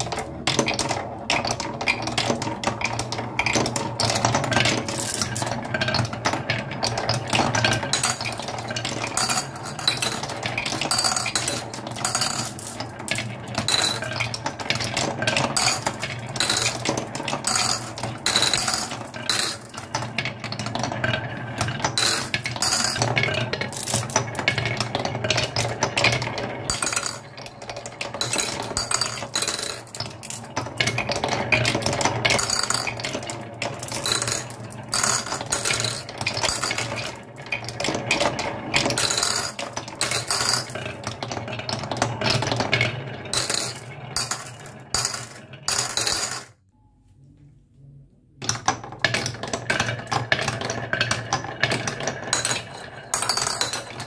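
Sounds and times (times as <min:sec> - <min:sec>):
marbles rolling down wooden track: 0:00.0 - 0:46.6, 0:48.4 - 0:54.0.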